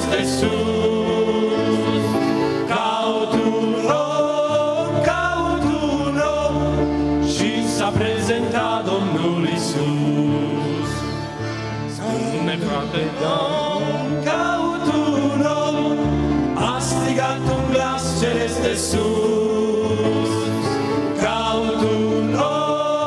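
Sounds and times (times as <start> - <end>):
vocal group singing a hymn: 0.0 - 23.0.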